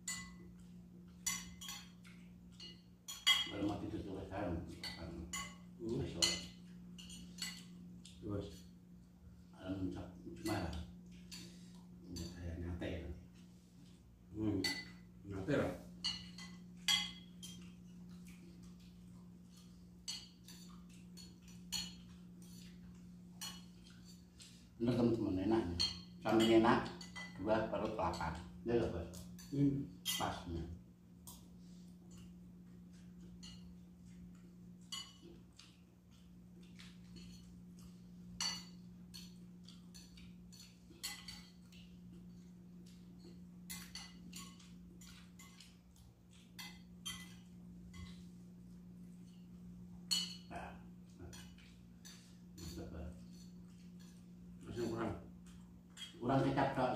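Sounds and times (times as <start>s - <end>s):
spoons clinking against bowls: 0.0s - 4.0s, 4.7s - 8.8s, 10.4s - 12.5s, 14.6s - 15.1s, 16.0s - 28.5s, 29.1s - 30.5s, 32.1s - 48.2s, 49.2s - 56.8s.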